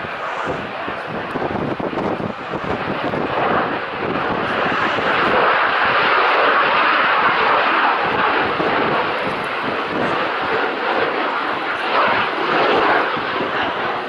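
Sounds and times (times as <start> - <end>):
fighter jet engine roar: 0.0 - 14.0.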